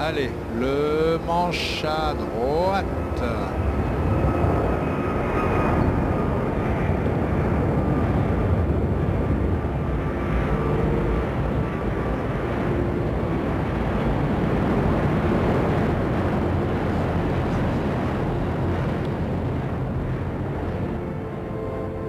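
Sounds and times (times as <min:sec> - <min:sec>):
jet engines rumbling overhead: 0:00.0 - 0:22.0.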